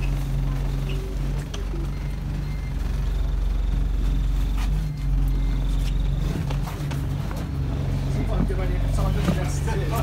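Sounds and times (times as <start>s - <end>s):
bus engine drone: 0.0s - 10.0s.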